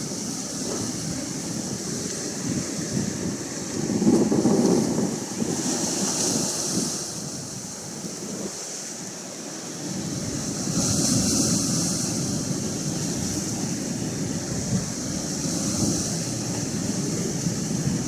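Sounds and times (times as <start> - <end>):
wind noise on microphone: 0.0 - 9.1, 9.8 - 18.0
ocean waves washing in: 0.0 - 18.0.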